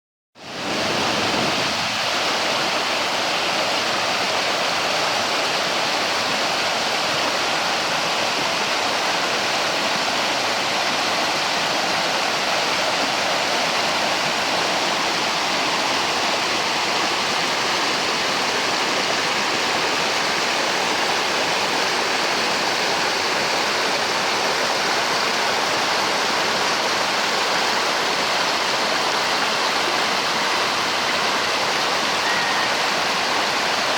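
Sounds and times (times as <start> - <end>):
creek water flowing: 0.4 - 33.9.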